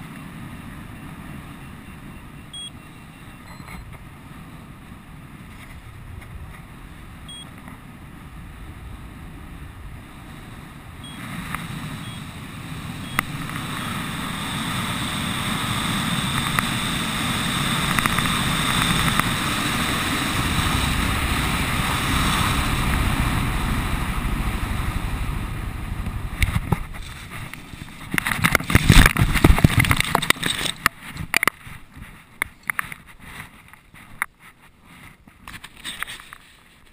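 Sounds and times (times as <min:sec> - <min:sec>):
wind rushing over microphone: 0:00.0 - 0:35.6.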